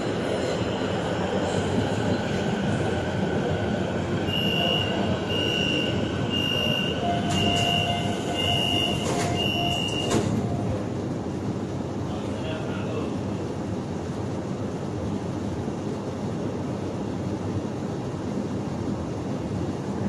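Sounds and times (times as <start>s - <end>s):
metro train carriage rumble: 0.0s - 20.0s.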